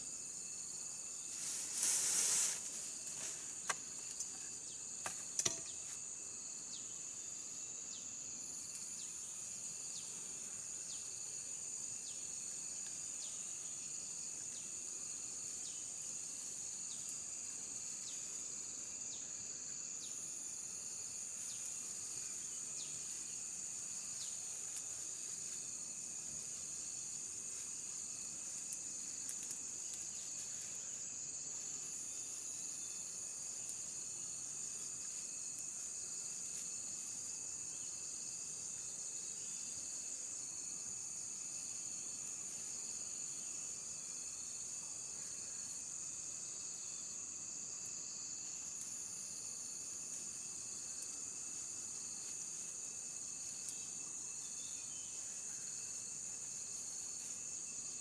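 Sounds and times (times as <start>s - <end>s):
high insect trill: 0.0s - 58.0s
pulsing insect trill: 0.0s - 58.0s.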